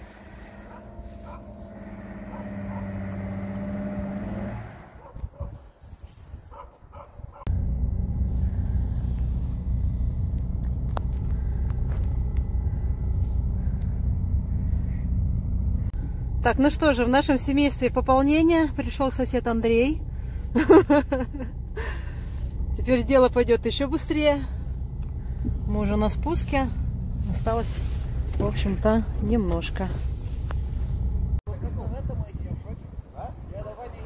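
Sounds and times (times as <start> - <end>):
loud steady low rumble: 0.0 - 5.2, 7.5 - 33.6
vehicle engine: 0.0 - 5.6, 7.3 - 31.4.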